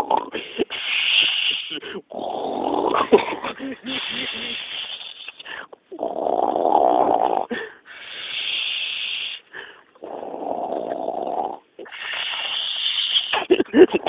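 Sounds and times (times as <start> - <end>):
person fake snoring: 0.0 - 9.4, 10.0 - 13.5
breathy hiss: 0.0 - 13.6.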